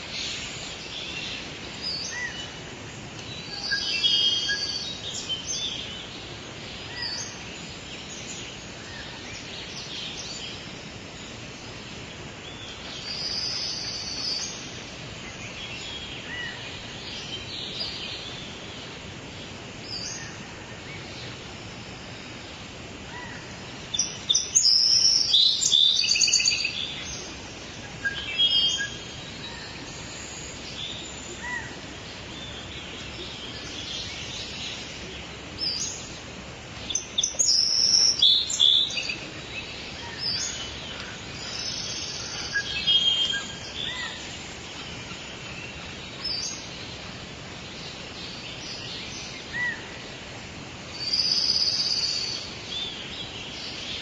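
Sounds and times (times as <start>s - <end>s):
outdoor background hiss: 0.0s - 54.0s
songbirds chirping: 0.0s - 54.0s.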